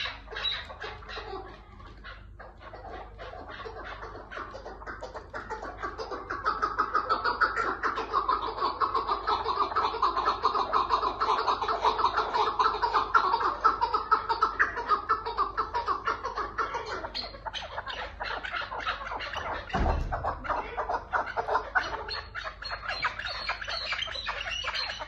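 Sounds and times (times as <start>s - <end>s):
partridge calling: 0.0s - 25.0s.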